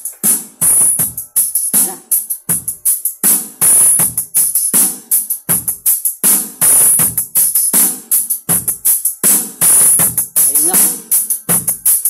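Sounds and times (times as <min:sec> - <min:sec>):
dance music over speakers: 0:00.0 - 0:07.9, 0:08.5 - 0:12.0.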